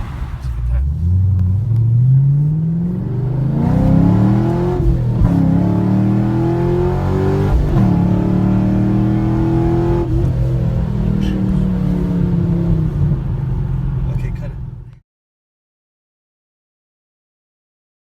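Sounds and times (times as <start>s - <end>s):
car engine accelerating hard: 0.0s - 14.9s.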